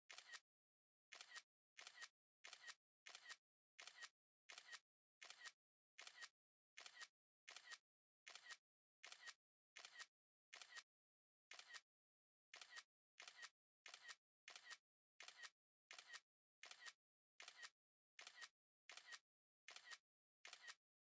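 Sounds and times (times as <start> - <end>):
camera shutter click: 0.1 - 0.4, 1.1 - 10.8, 11.5 - 11.8, 12.5 - 20.8.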